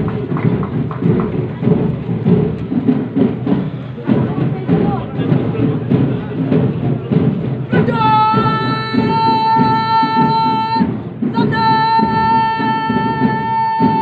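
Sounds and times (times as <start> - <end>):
parade band music: 0.0 - 14.0
steady drumbeats: 0.0 - 14.0.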